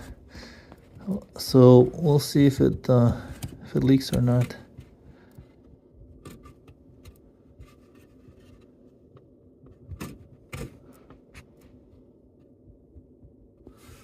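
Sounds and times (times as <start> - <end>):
faint clicks and rustles: 0.0 - 14.0.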